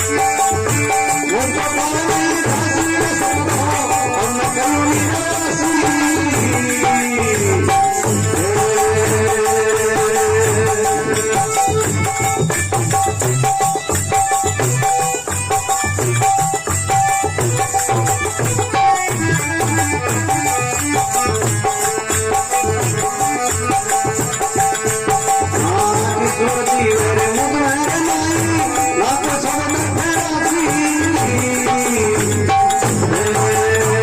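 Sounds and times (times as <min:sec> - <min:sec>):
hand drum beat: 0:00.0 - 0:34.0
jingling rattle percussion: 0:00.0 - 0:34.0.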